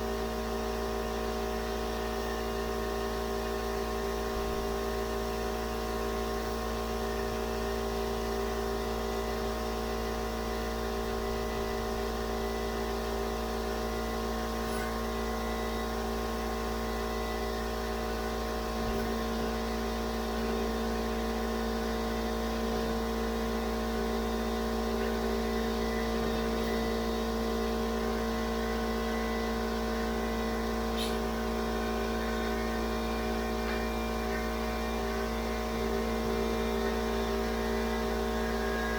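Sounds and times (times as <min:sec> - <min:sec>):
air compressor droning: 0:00.0 - 0:38.9.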